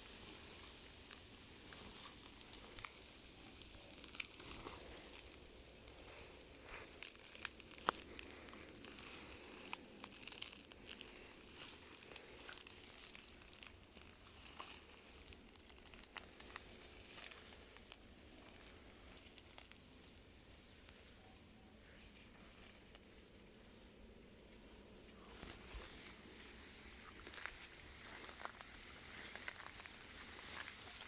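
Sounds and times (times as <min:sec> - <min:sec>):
rustling and crinkling: 0:00.0 - 0:31.0.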